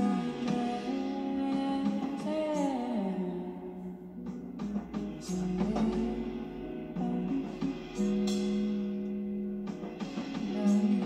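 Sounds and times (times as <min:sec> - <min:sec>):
guitar music from a vinyl record: 0:00.0 - 0:11.0.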